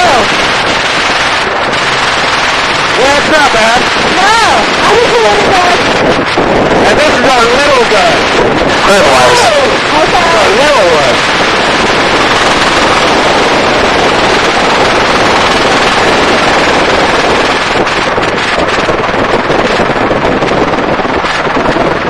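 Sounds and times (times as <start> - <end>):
helicopter rotor and engine: 0.0 - 22.0
wind buffeting microphone: 0.0 - 22.0.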